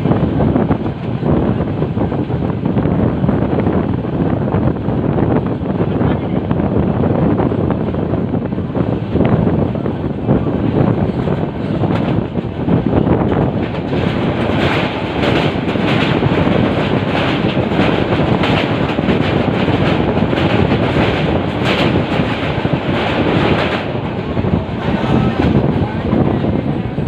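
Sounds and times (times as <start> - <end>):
train clacking over bridge: 0.0 - 27.0
train wheels rumbling on track: 0.0 - 27.0.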